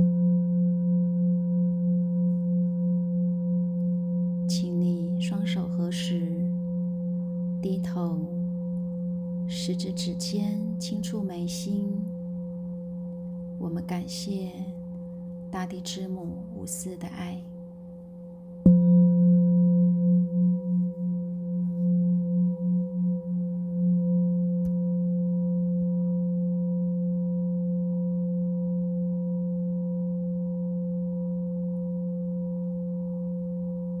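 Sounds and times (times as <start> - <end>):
singing bowl ringing: 0.0 - 34.0.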